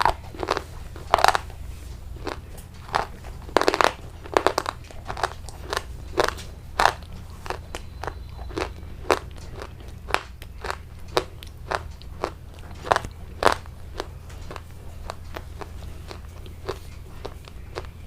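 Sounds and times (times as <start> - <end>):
crisp food crunching: 0.0 - 18.0.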